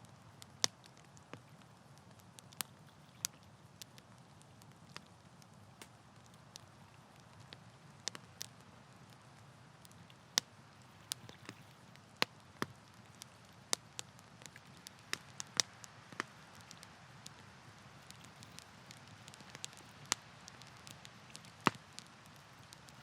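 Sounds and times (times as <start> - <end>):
campfire crackling and popping: 0.0 - 23.0
faint low hiss: 0.0 - 23.0.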